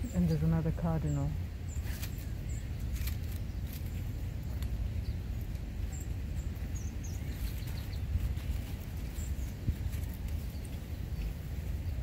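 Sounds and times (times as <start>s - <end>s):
low background rumble: 0.0s - 12.0s
songbird chip calls: 0.0s - 12.0s.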